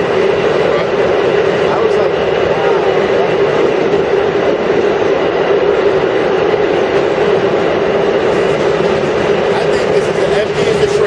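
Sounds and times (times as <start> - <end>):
constant drone: 0.0 - 11.0
subway car rumble: 0.0 - 11.0.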